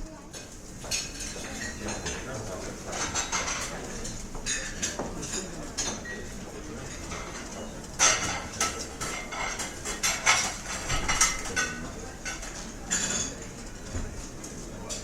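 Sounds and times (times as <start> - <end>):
murmur of room: 0.0 - 15.0
cutlery and dishes clinking: 0.4 - 15.0.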